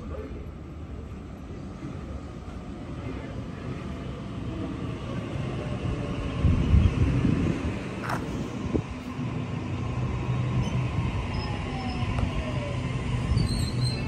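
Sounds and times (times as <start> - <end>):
electric train approaching: 0.0 - 14.0.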